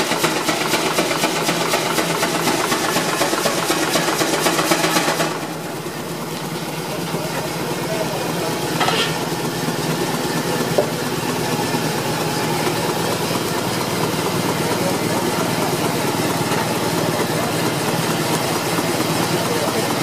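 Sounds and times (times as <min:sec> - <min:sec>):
steam engine rumble: 0:00.0 - 0:20.0.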